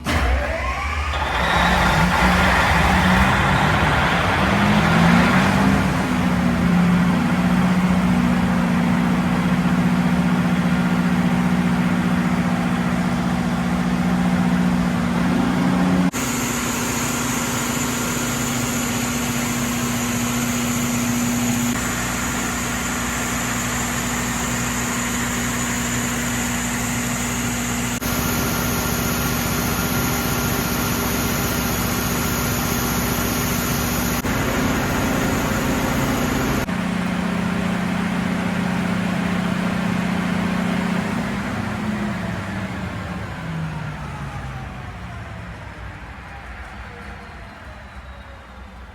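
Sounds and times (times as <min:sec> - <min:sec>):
diesel generator engine drone: 0:00.0 - 0:48.9.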